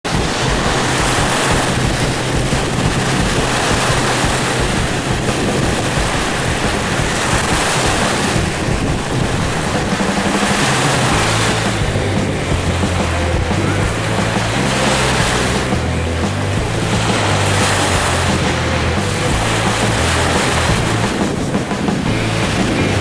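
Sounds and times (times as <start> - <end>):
boat engine hum: 0.0 - 23.0
choppy water: 0.0 - 23.0
wind buffeting microphone: 0.0 - 23.0.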